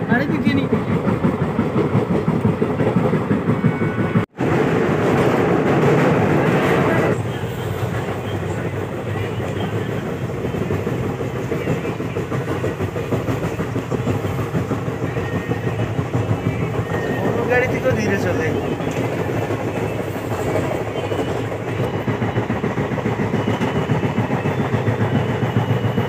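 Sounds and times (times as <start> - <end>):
passenger train running: 0.0 - 26.0
wheels clattering on rails: 0.0 - 26.0.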